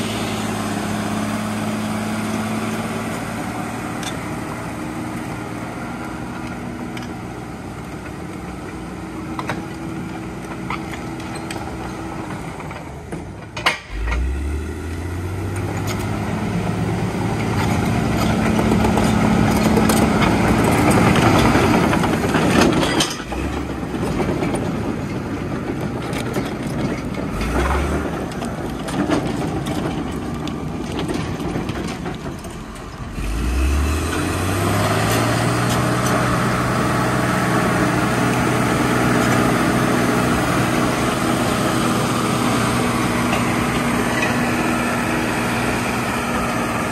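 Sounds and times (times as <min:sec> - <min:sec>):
diesel engine revving under load: 0:00.0 - 0:46.9.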